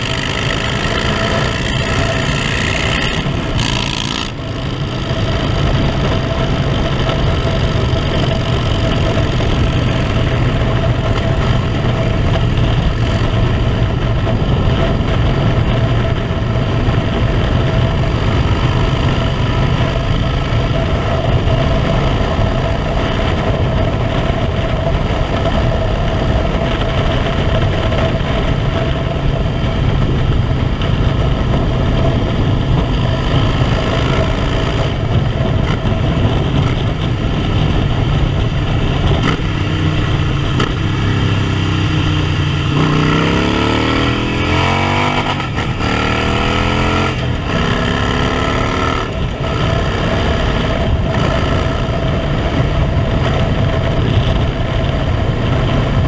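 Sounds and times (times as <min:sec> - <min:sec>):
motorcycle engine running: 0:00.0 - 0:56.0
wind rush over microphone: 0:00.0 - 0:56.0.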